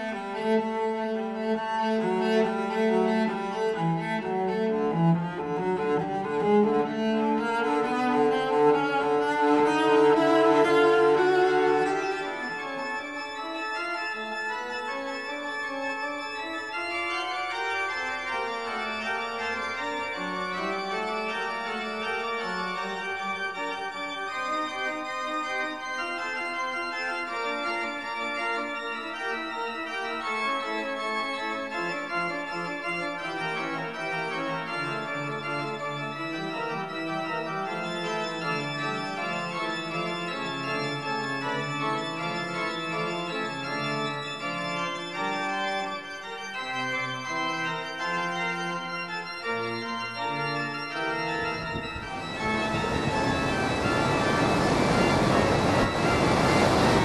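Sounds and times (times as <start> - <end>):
organ-like keyboard music: 0.0 - 57.0.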